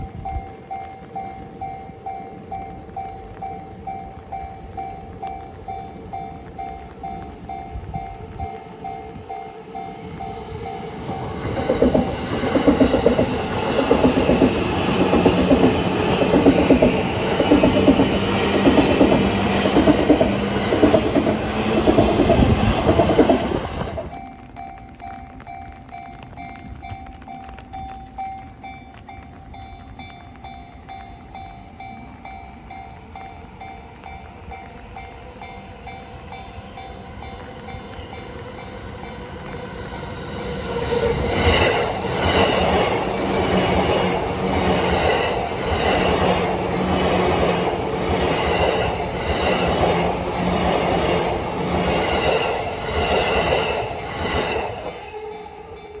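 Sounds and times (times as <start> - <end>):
train wheels clacking: 0.0 - 56.0.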